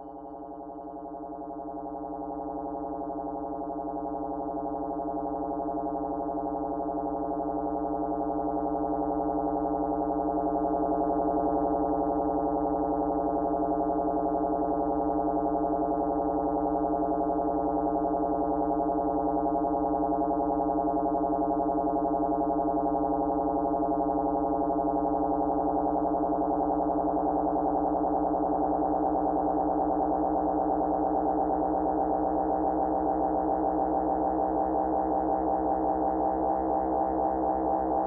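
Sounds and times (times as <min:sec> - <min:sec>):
synthesizer drone with pulsing flutter: 0:00.0 - 0:38.0.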